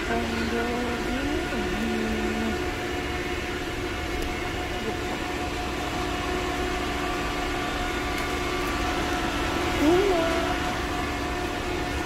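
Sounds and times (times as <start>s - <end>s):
refrigeration hum: 0.0s - 12.0s.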